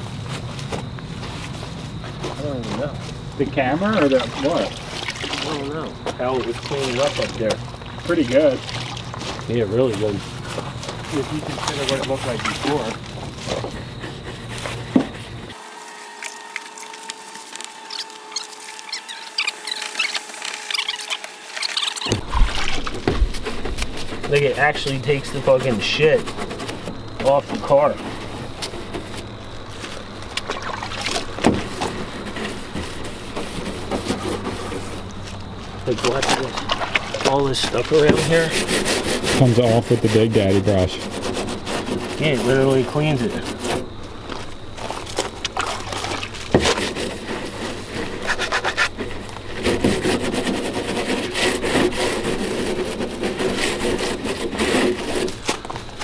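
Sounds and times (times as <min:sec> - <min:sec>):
scrub brush rubbing metal door: 0:08.0 - 0:35.3, 0:35.9 - 0:45.2, 0:46.0 - 0:56.0.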